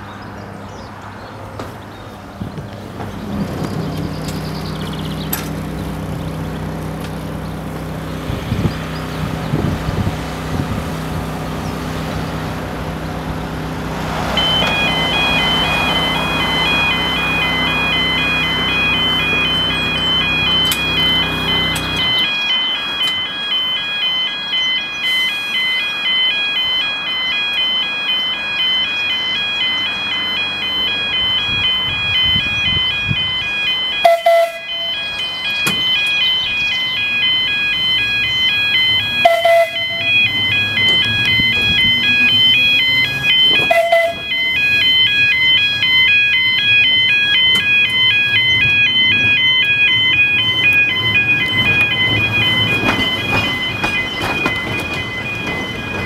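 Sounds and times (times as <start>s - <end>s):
two-tone crossing alarm: 2.4s - 56.0s.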